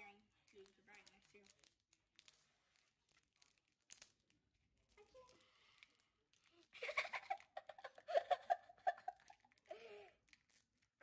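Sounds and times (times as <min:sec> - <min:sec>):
candy wrapper crackling: 0:00.0 - 0:11.0.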